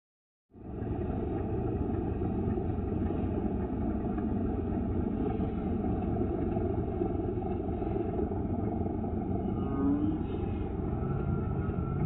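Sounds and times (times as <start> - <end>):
plane engine low rumble: 0.5 - 12.0.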